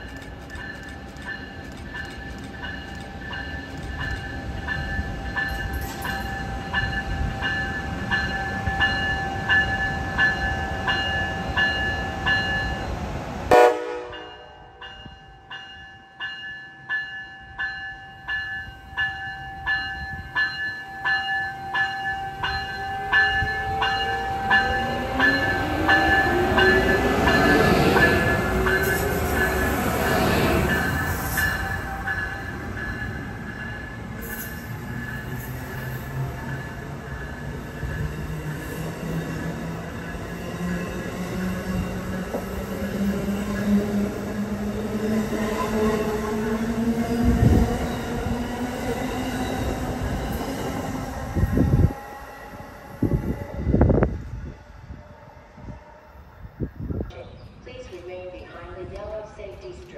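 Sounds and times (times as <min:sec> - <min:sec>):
train pulling into station: 0:00.0 - 0:59.9.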